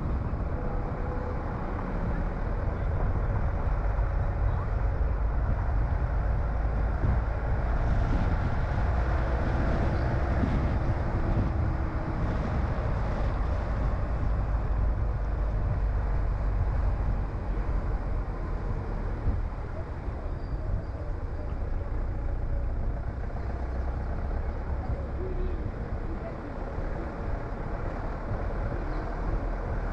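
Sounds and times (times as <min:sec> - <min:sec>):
car engine and tyre rumble: 0:00.0 - 0:29.9.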